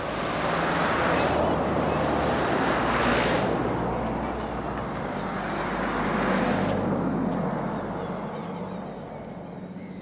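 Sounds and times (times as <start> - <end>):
steady low traffic drone: 0.0 - 10.0
vehicle passing: 0.0 - 10.0.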